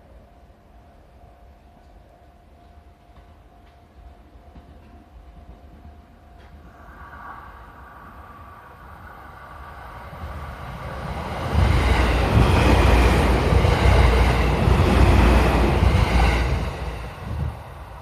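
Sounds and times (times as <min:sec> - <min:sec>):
train wheels rumbling on rail: 0:01.8 - 0:18.0.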